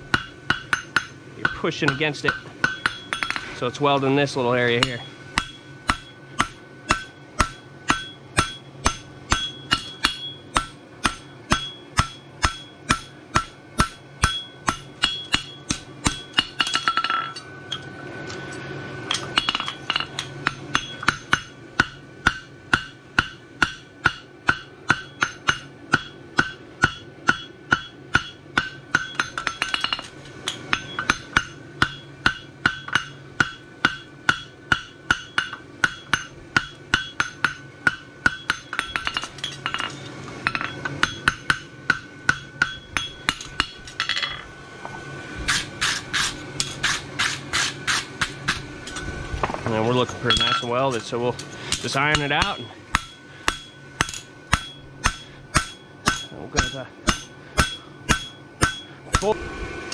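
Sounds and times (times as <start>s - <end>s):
hammer ringing on anvil: 0.1s - 44.4s, 50.2s - 59.4s.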